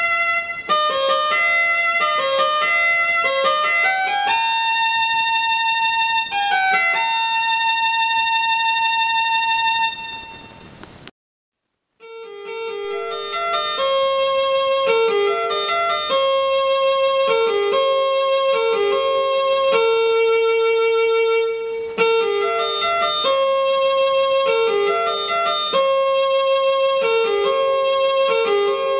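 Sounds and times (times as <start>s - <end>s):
slow keyboard melody: 0.0s - 10.7s, 12.0s - 28.9s.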